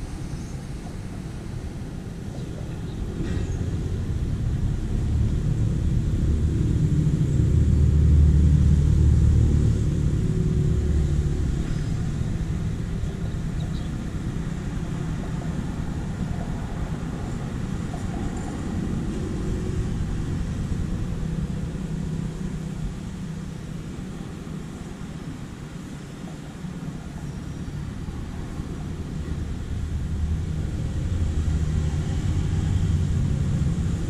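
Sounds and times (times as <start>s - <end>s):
passing vehicle rumble: 0.0s - 34.0s
steady low background rumble: 0.0s - 34.0s.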